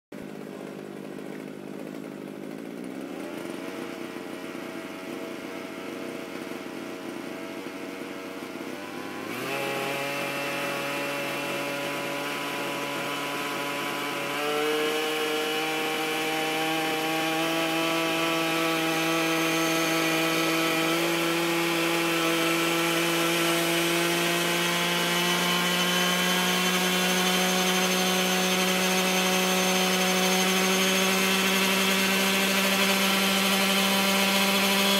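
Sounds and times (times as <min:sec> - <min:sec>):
model helicopter engine running: 0:00.2 - 0:34.9.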